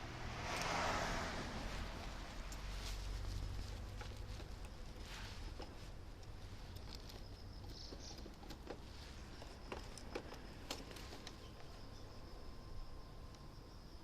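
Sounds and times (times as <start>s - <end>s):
low rumble of car on road: 0.0s - 14.0s.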